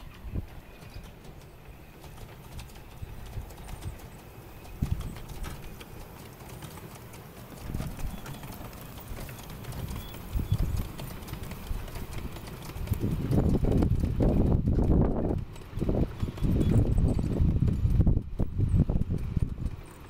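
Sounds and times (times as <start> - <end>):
train wheels clicking on rail joints: 0.0 - 20.0.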